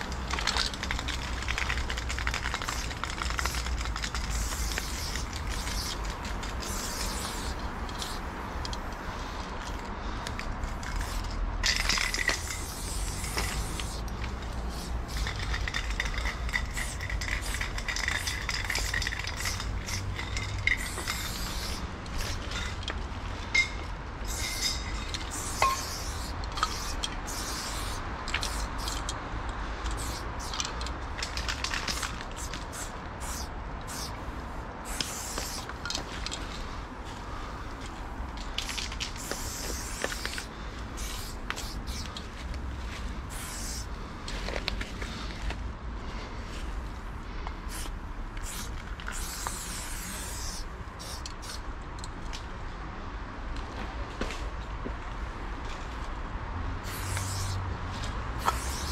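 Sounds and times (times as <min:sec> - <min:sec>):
spray paint can hissing: 0:00.0 - 0:22.8, 0:23.6 - 0:29.2, 0:29.8 - 0:36.6, 0:38.5 - 0:45.5, 0:47.7 - 0:51.6, 0:56.8 - 0:57.6, 0:58.4 - 0:58.9.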